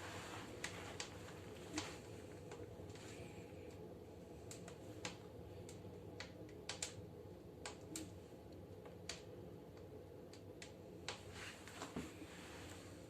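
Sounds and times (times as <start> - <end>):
steady low hum: 0.0 - 13.0
wood fire crackling and popping: 0.0 - 13.0.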